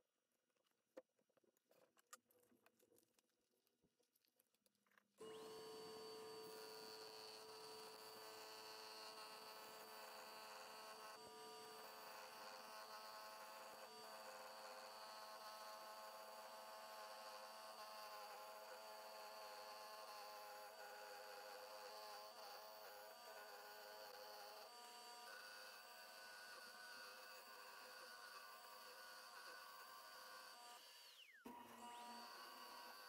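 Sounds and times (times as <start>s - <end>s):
turning tool cutting wood: 5.2s - 33.0s
wood lathe motor whining: 5.2s - 33.0s.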